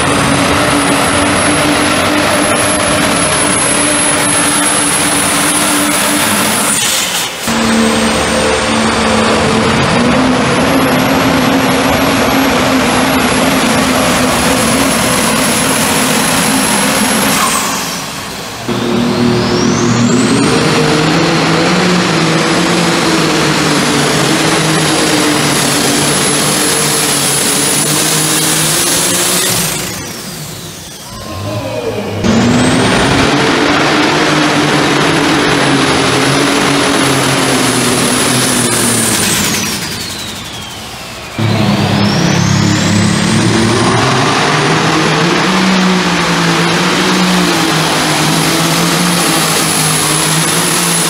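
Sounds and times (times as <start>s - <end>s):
diesel truck engine drone: 0.0s - 51.0s
turbocharger whistle: 0.0s - 51.0s.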